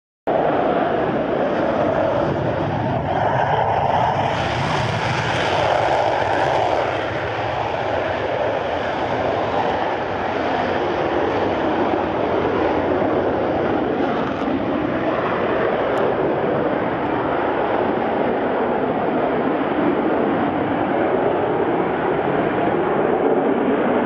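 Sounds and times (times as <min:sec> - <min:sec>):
jet engines roaring at takeoff: 0:00.3 - 0:24.0.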